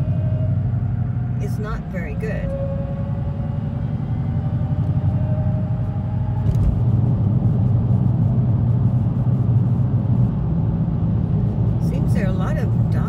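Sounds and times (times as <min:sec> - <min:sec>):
car engine rumble: 0:00.0 - 0:13.0
road noise inside car: 0:00.0 - 0:13.0.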